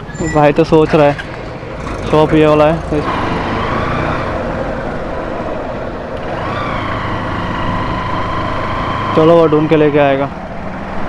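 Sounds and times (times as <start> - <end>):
low engine hum: 0.0 - 11.0
street traffic: 0.0 - 11.0.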